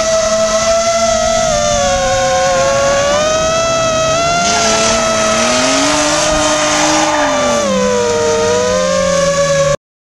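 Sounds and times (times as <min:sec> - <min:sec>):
car engine revving: 0:00.0 - 0:09.8
quadcopter motors whining: 0:00.5 - 0:08.9.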